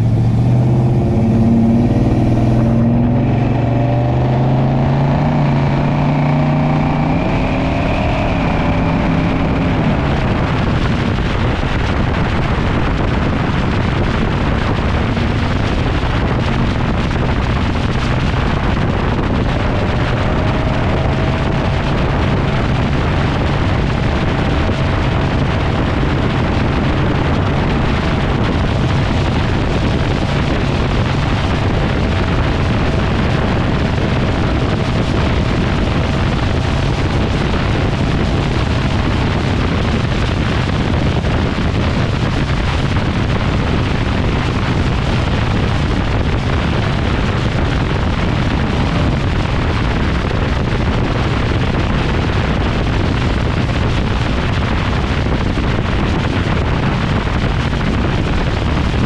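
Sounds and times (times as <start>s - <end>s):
truck exhaust drone: 0.0s - 59.0s
wind rushing over microphone: 0.0s - 59.0s.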